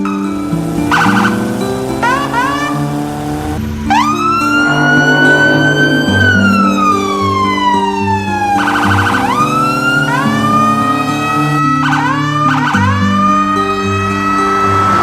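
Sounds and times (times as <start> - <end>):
background music: 0.0 - 15.0
electronic siren-like tone: 0.9 - 15.0.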